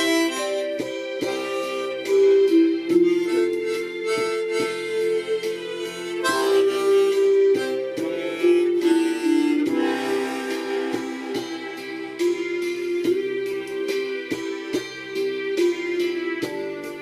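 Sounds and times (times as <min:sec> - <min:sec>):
backing track with soft beats: 0:00.0 - 0:17.0
harmonica melody: 0:00.0 - 0:17.0.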